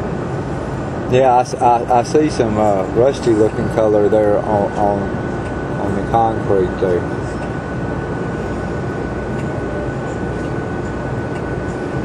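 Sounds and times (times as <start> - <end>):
bus engine rumble: 0.0 - 12.0
faint high whine: 0.0 - 12.0.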